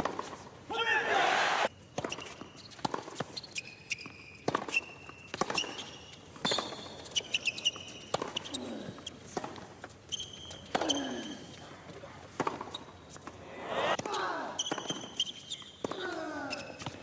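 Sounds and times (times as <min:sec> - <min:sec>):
tennis shoes squeaking on court: 0:01.7 - 0:17.0.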